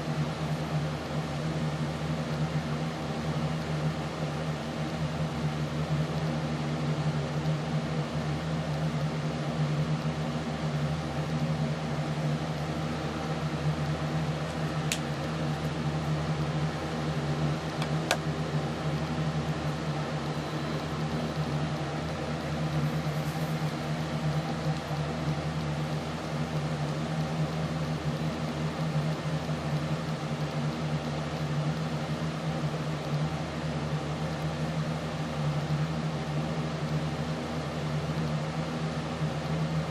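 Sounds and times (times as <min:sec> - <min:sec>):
mechanical hum with hiss: 0:00.0 - 0:39.9.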